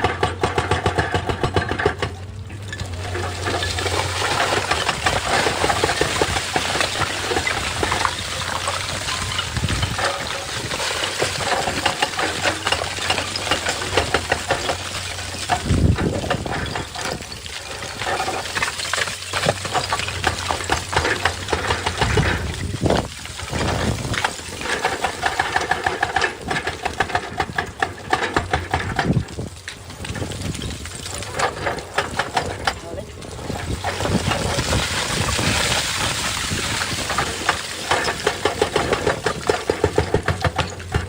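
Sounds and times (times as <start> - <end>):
excavator engine running: 0.0 - 41.0
rock scraping and clattering: 0.0 - 41.0.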